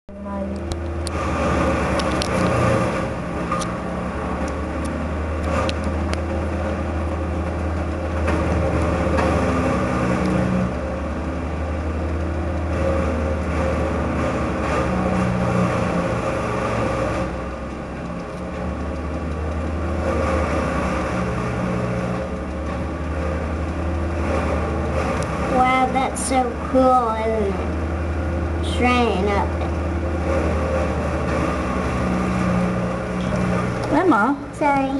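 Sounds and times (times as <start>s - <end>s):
machinery engine running: 0.0s - 34.9s.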